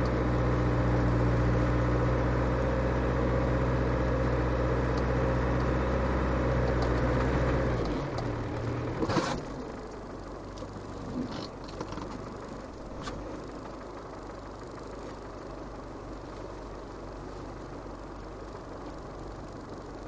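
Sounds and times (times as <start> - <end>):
diesel engine pulling: 0.0 - 20.0.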